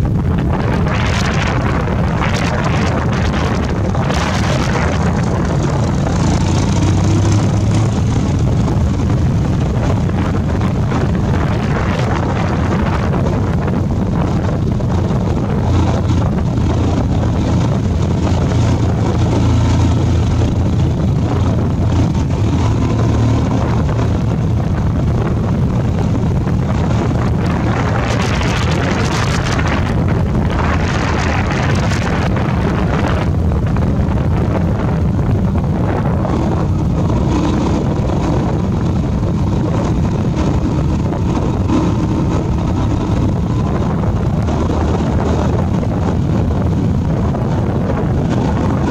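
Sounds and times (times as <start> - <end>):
motorbike riding: 0.0 - 48.9
passing motorbike: 0.0 - 48.9
wind buffeting microphone: 0.0 - 48.9.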